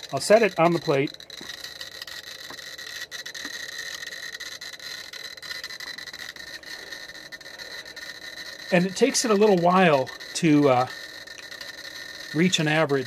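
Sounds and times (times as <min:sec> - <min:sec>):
geiger counter clicking rapidly: 0:00.0 - 0:13.0
steady high tone: 0:00.0 - 0:13.0.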